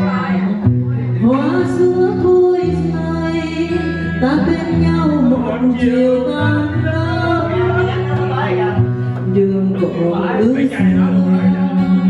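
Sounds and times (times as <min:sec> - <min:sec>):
backing track music: 0:00.0 - 0:12.0
woman singing karaoke: 0:00.0 - 0:12.0.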